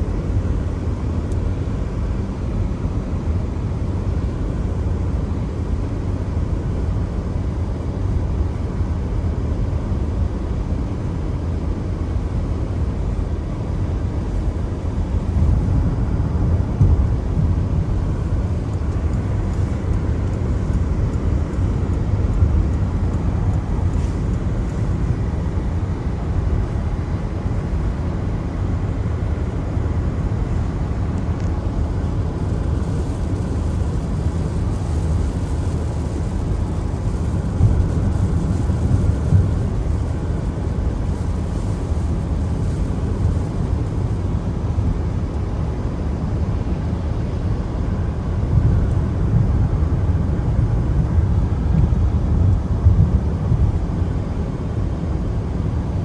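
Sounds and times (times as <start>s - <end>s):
car driving on wet road: 0.0s - 56.0s.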